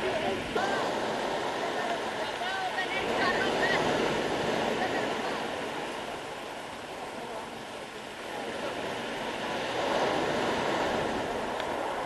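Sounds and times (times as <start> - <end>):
waves breaking on pebble beach: 0.0 - 12.0.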